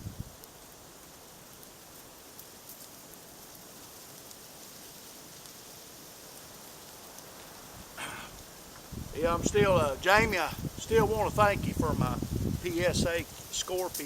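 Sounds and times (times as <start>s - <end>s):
campfire hissing and crackling: 0.0s - 14.0s
meat cooking over flames: 0.0s - 14.0s.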